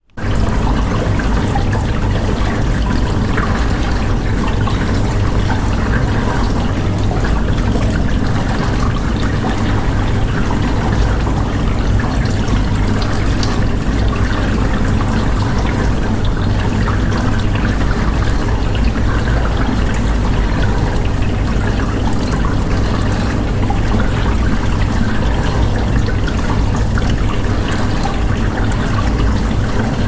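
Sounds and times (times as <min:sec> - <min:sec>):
dishwasher pump motor hum: 0:00.0 - 0:30.0.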